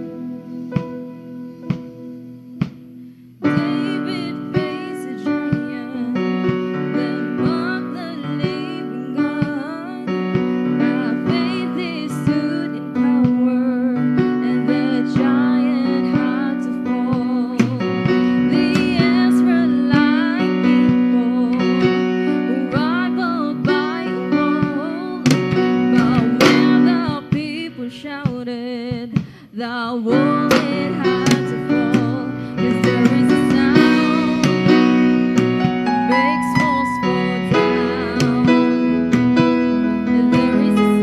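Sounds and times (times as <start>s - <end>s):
acoustic guitar: 0.0s - 41.0s
keyboard accompaniment: 0.0s - 41.0s.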